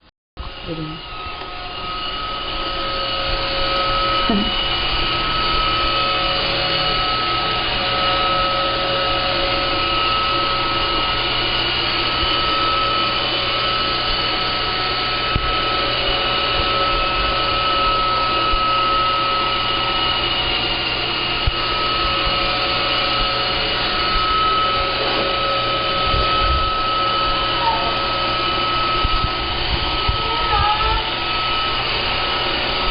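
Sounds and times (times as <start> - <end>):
robot vacuum whirring: 0.5 - 32.9.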